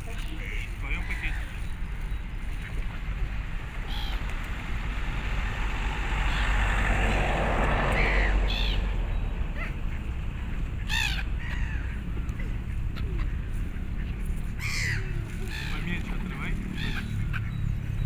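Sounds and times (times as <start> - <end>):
birds calling harshly: 0.0 - 18.0.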